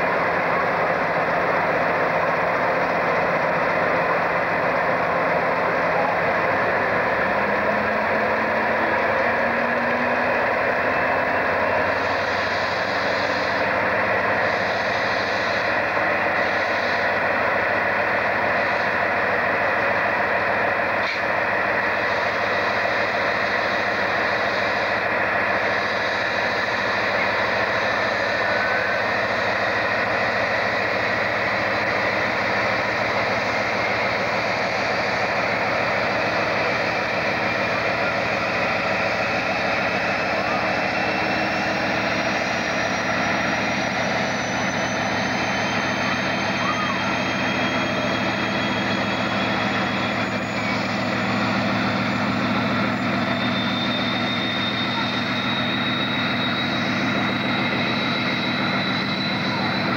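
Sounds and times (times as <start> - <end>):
diesel locomotive engine running: 0.0 - 59.9.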